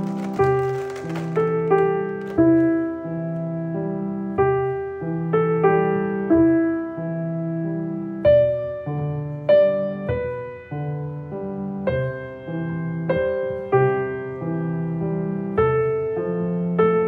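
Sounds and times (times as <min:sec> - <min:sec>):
slow keyboard tune: 0:00.0 - 0:17.0.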